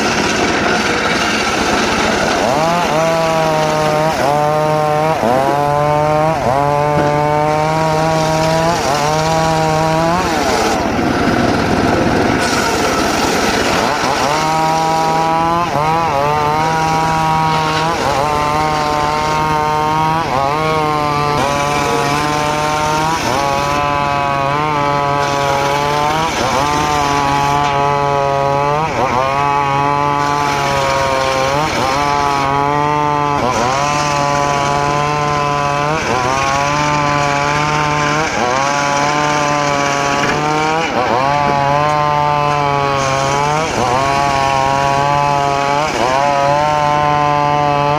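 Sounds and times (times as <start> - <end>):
circular saw cutting wood: 0.0 - 47.9.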